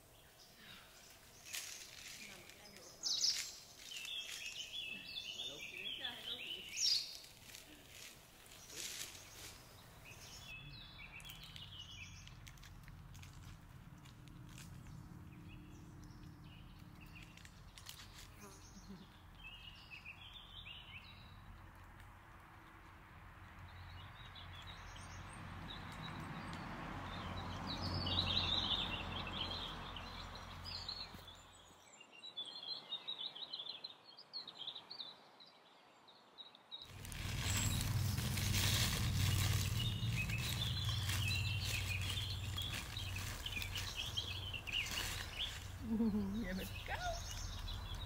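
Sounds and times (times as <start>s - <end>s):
small birds chirping and singing: 0.0s - 22.0s, 23.6s - 48.0s
outdoor background noise: 0.0s - 48.0s.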